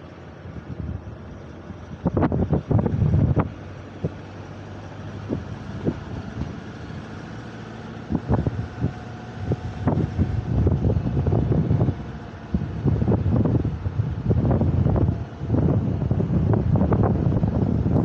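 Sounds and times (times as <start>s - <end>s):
vehicle driving slowly: 0.0s - 18.0s
wind buffeting microphone: 0.5s - 4.4s, 5.0s - 18.0s.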